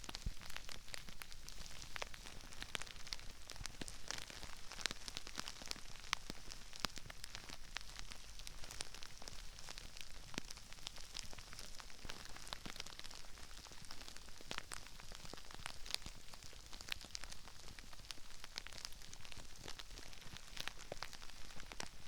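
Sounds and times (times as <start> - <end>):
crispy rice crackling and popping: 0.0 - 22.0.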